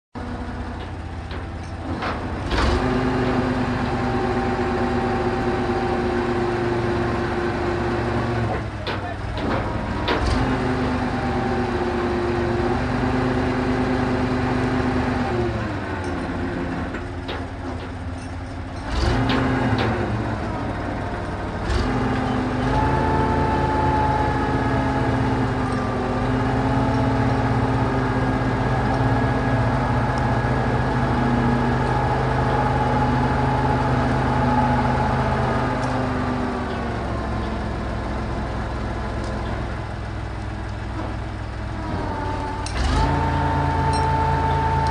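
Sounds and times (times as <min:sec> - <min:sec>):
crane engine running under load: 0:00.2 - 0:44.9.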